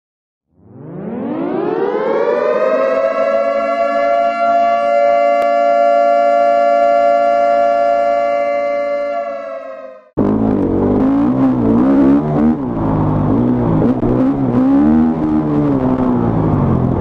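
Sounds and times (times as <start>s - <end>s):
air-raid siren: 0.5s - 17.0s.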